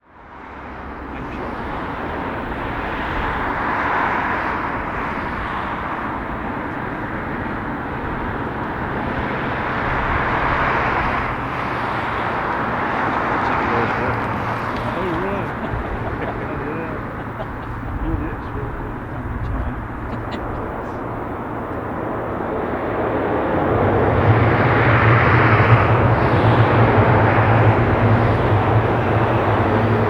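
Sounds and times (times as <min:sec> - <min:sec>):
turboprop plane droning: 0:00.0 - 0:30.0.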